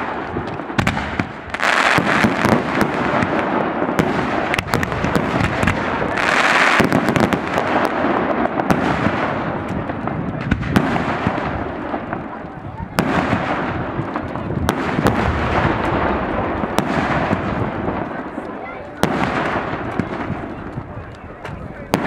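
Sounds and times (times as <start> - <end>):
fireworks bursts and crackling bangs: 0.0 - 22.0
fireworks rushing hisses: 0.0 - 22.0.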